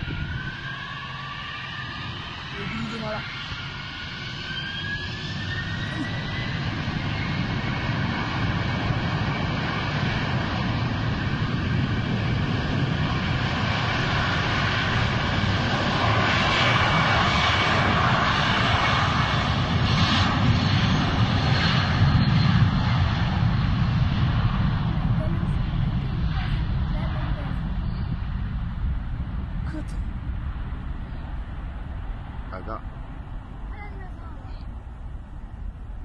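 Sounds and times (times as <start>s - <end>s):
jet engines at takeoff: 0.0s - 36.0s.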